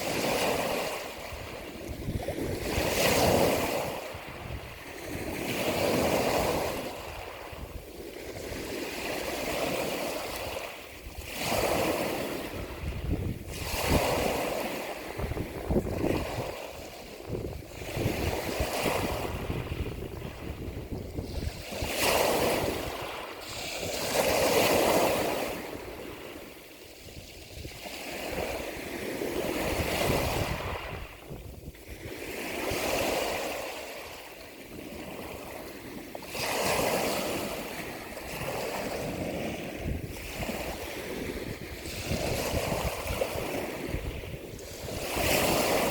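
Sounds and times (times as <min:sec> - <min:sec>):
ocean waves breaking on shore: 0:00.0 - 0:45.9.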